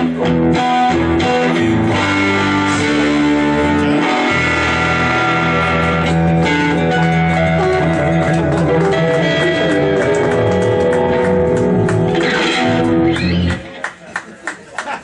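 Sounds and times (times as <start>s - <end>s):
electric guitars playing rock: 0.0s - 13.9s.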